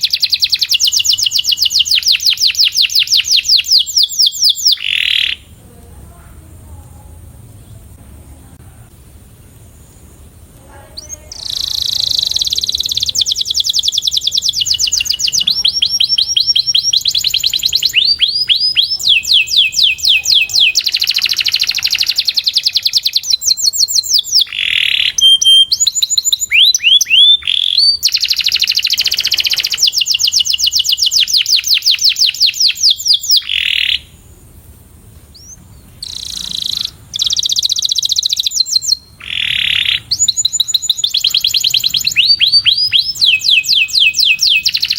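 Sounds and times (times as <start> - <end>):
canary singing fast trills: 0.0 - 5.6, 9.4 - 34.4, 35.3 - 44.9.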